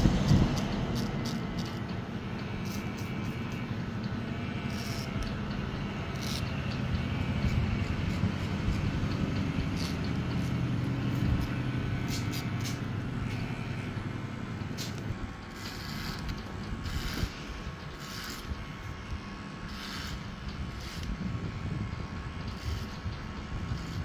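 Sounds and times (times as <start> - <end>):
electric hair clipper buzzing: 0.0 - 24.0.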